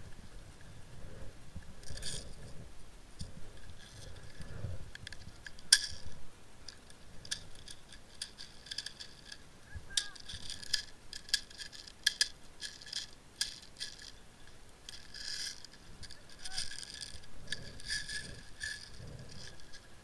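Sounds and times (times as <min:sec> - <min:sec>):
dry brush crackling and rustling: 0:03.5 - 0:20.0.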